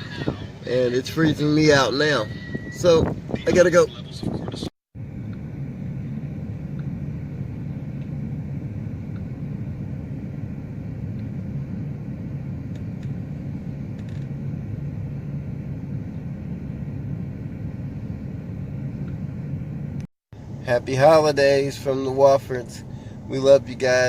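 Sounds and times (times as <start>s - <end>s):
vehicle engine running: 3.4s - 24.0s.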